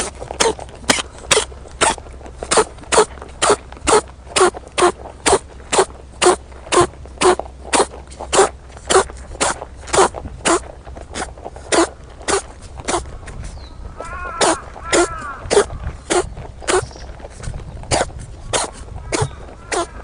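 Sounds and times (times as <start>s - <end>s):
rabbit sneezing: 0.0s - 13.5s, 14.2s - 20.0s.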